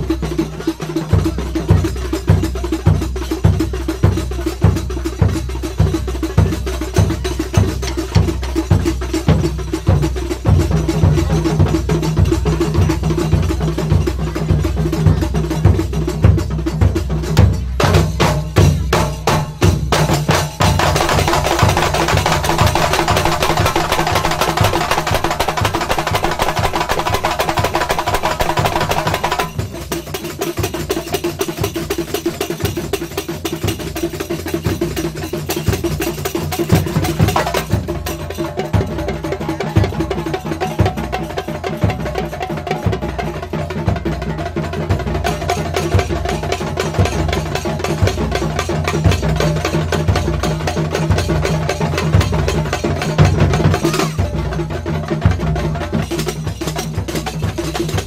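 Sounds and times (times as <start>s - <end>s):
percussion band drumming: 0.0s - 58.0s.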